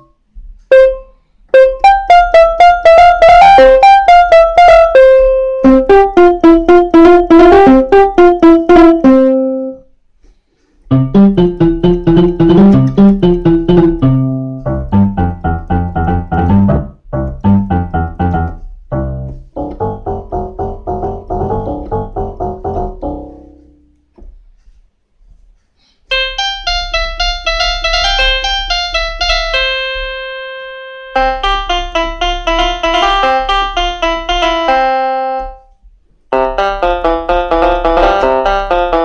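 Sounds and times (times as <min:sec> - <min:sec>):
electronic keyboard notes: 0:00.0 - 0:09.9, 0:10.9 - 0:24.0, 0:26.1 - 0:39.0
keyboard melody in bright voice: 0:00.0 - 0:09.9, 0:10.9 - 0:24.2, 0:26.1 - 0:39.0.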